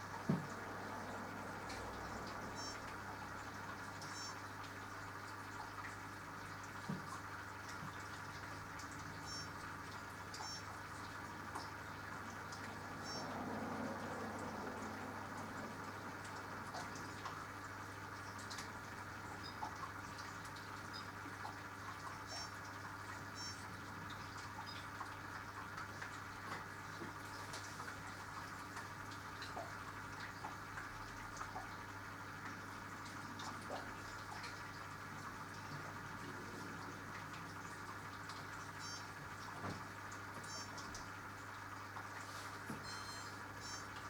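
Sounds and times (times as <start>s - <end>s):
water dripping: 0.0s - 36.2s, 36.8s - 43.0s
washing machine humming: 0.0s - 44.0s.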